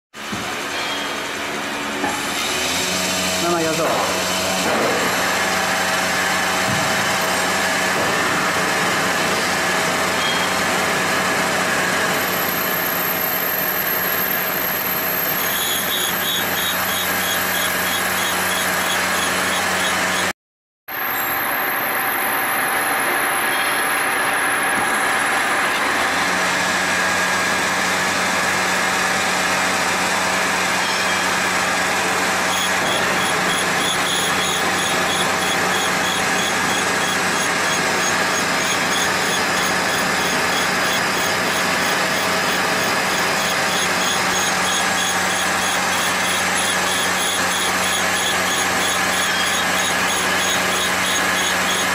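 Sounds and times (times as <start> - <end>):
grinding machine running: 0.2 - 20.3, 20.9 - 51.9.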